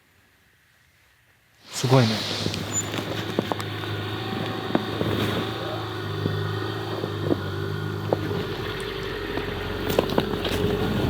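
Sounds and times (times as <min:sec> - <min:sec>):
car engine humming: 0:01.7 - 0:11.0.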